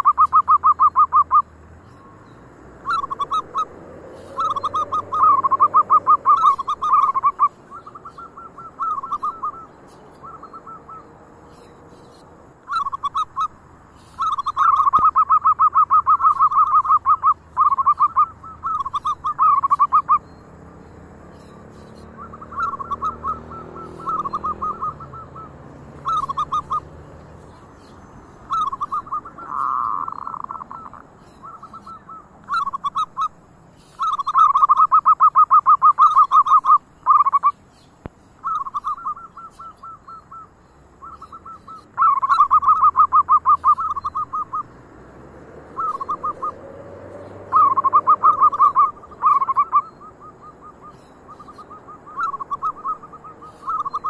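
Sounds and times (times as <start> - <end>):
doves cooing: 0.0 - 37.5, 38.4 - 54.0.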